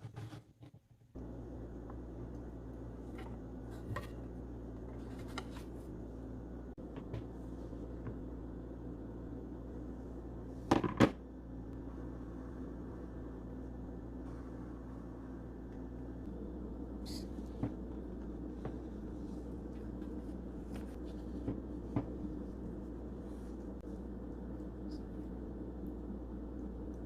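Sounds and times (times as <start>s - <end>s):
steady low hum: 1.1s - 27.0s.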